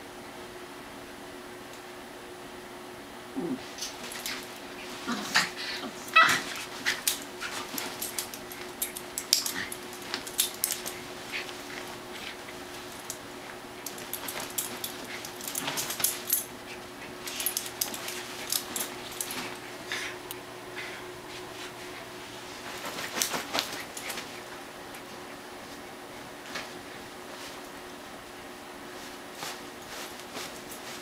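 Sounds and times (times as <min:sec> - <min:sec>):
dogs scuffling and scratching: 0:03.6 - 0:20.4, 0:21.2 - 0:28.0, 0:28.8 - 0:31.0.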